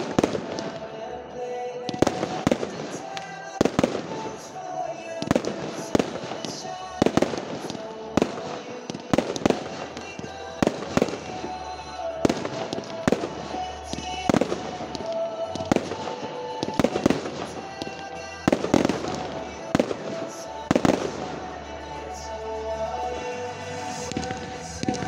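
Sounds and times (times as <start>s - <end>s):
fireworks bangs: 0.0s - 22.3s, 23.2s - 25.0s
music playing: 0.0s - 25.0s.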